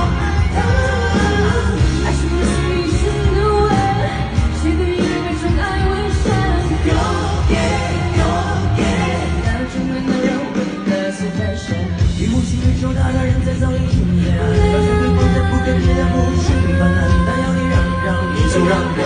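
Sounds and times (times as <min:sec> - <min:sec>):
woman singing into a microphone: 0:00.0 - 0:10.8, 0:14.2 - 0:19.0
pop-rock backing track: 0:00.0 - 0:19.0.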